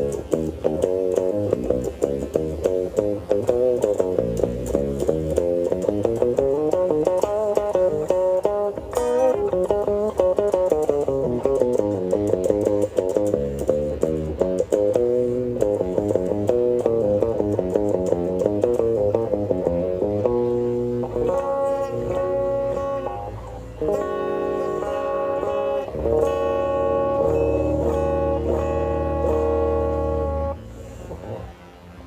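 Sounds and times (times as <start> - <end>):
held guitar chords: 0.0 - 32.0
picked guitar line: 0.0 - 32.0
steady bass: 0.0 - 32.0.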